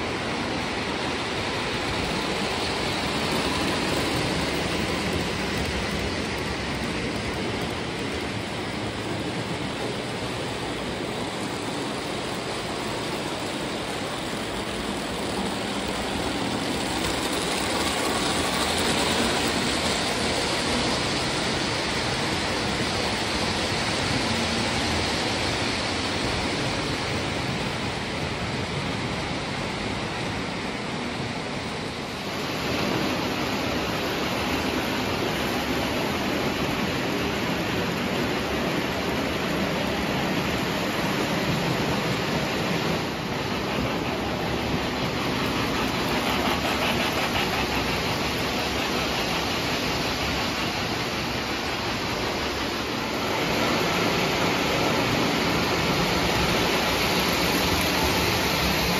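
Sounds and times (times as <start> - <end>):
model trains rolling: 0.0 - 58.9.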